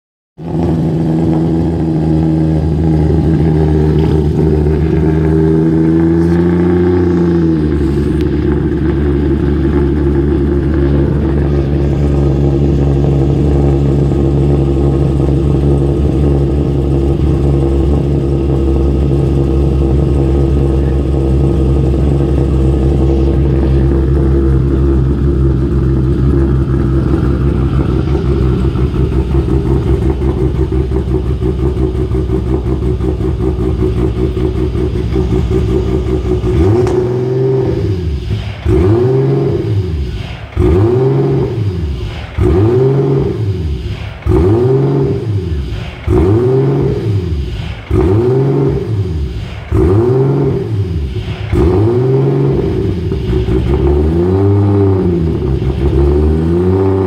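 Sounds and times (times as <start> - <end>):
car engine idling: 0.4 - 57.0.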